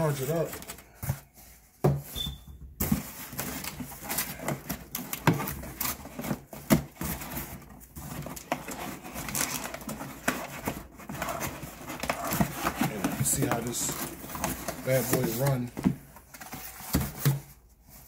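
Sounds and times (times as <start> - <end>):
cardboard scraping and rubbing: 2.8 - 18.0.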